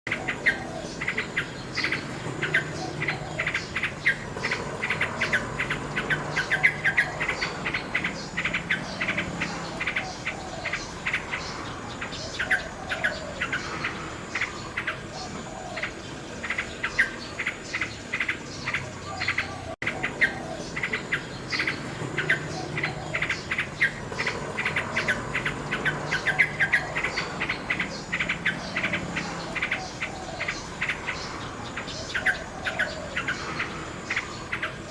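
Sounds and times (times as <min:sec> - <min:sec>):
nightingale singing: 0:00.1 - 0:34.9.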